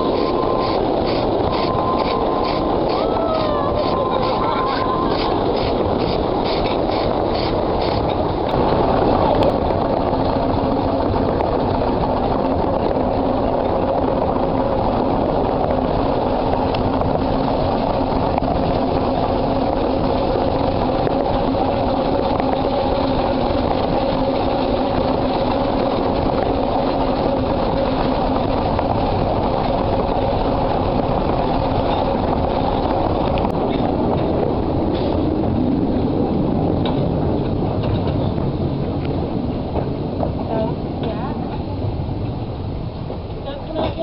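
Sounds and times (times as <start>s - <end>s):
miniature train rumbling on rails: 0.0s - 44.0s.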